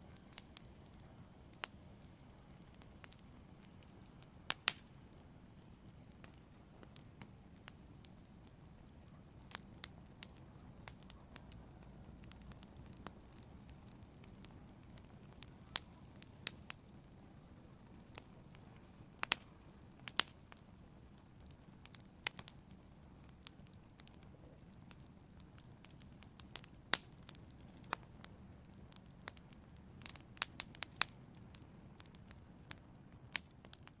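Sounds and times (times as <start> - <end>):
fire hissing: 0.0 - 33.8
wood crackling and popping: 0.0 - 34.0.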